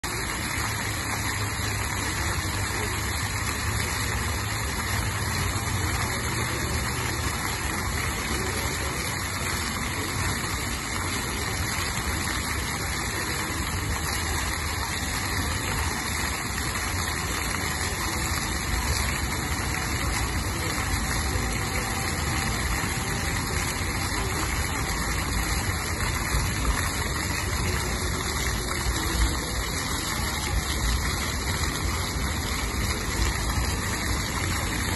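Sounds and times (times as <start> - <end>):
fountain water jets splashing: 0.0 - 34.9.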